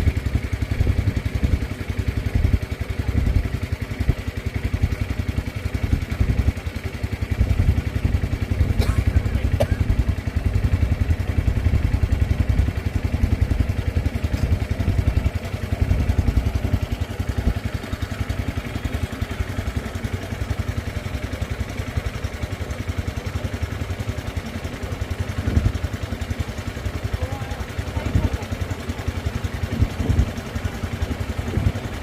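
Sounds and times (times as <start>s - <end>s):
small boat engine chugging: 0.0s - 32.0s.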